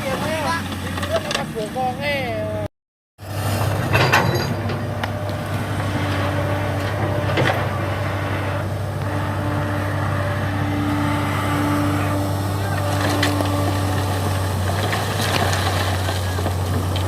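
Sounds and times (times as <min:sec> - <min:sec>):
heavy machinery diesel drone: 0:03.2 - 0:17.0.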